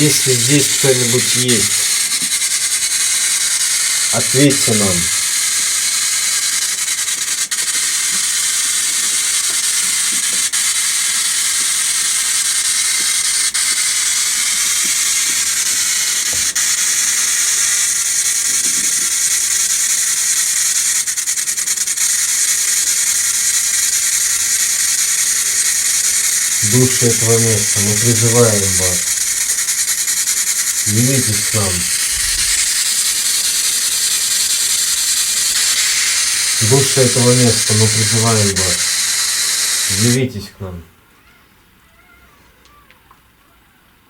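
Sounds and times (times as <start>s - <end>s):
loud static hiss: 0.0s - 41.0s.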